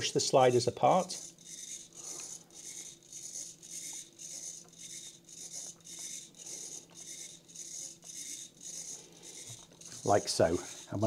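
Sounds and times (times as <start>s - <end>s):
servo whirring: 0.0s - 11.0s.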